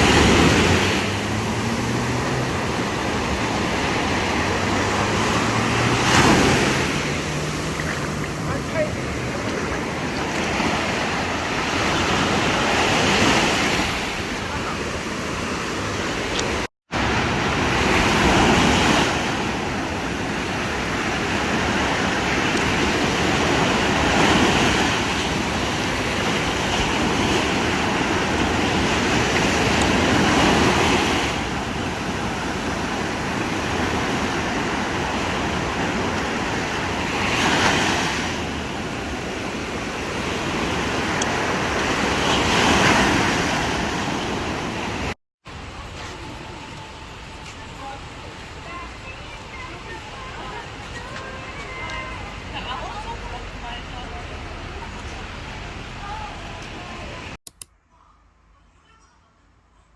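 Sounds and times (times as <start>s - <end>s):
sea waves breaking on beach: 0.0s - 57.4s.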